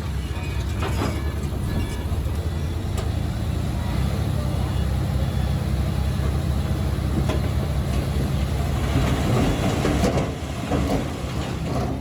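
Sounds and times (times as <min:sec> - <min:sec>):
steel tracks clanking: 0:00.0 - 0:03.4, 0:05.3 - 0:12.0
bulldozer diesel engine running: 0:00.0 - 0:12.0.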